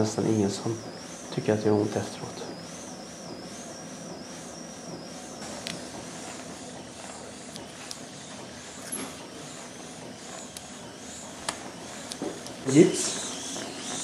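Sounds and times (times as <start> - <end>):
equipment hiss: 0.0 - 14.0.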